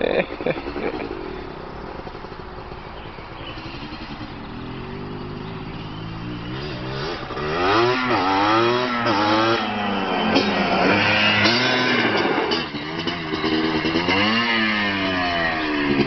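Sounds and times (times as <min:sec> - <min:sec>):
quad bike engine approaching: 0:00.0 - 0:16.0.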